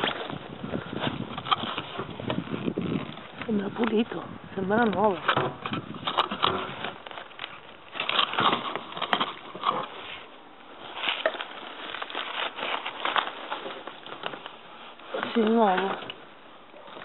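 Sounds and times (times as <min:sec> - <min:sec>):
plastic bins and cardboard handled: 0:00.0 - 0:17.0.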